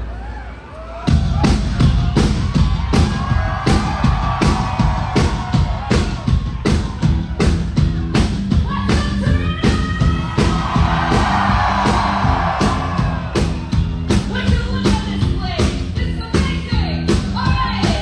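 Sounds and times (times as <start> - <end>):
heavy drum hits: 1.1 - 18.0
rock band playing live: 1.4 - 18.0.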